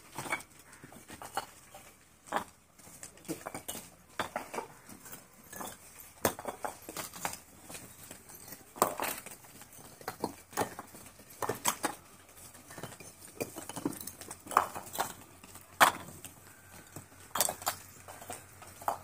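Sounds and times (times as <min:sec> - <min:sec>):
bricks clinking and knocking: 0:00.1 - 0:19.0.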